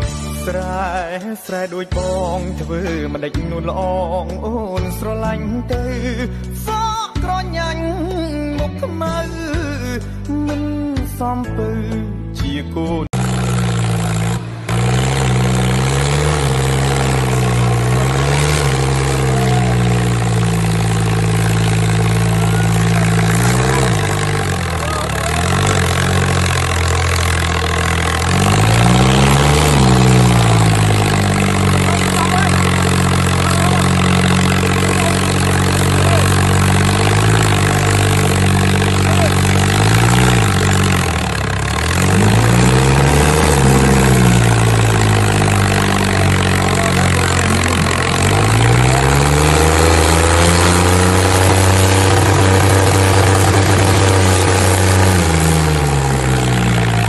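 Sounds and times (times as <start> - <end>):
diesel tractor engine revving: 0.0 - 57.0.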